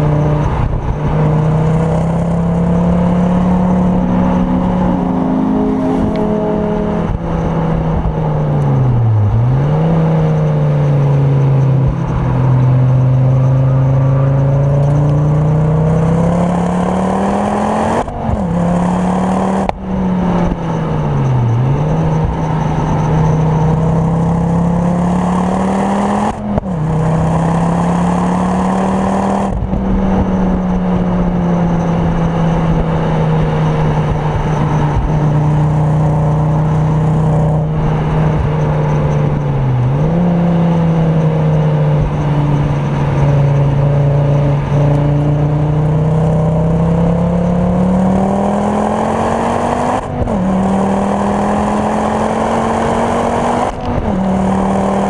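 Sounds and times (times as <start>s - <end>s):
car engine revving under power: 0.0s - 55.0s.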